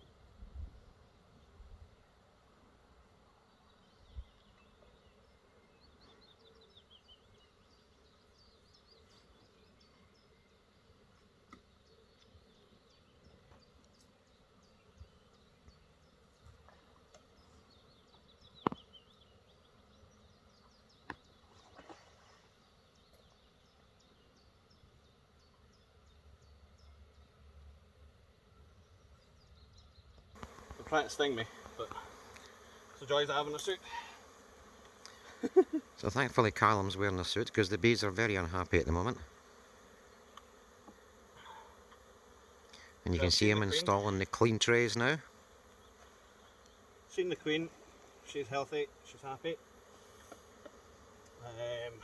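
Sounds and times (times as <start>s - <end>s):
honeybees buzzing: 2.0s - 27.2s, 29.6s - 52.0s.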